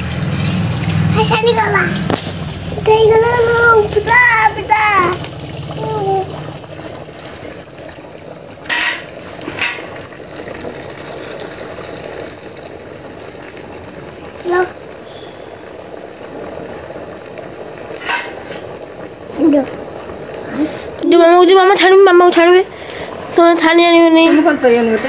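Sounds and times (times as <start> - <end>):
batter sizzling in hot oil: 0.0 - 25.0.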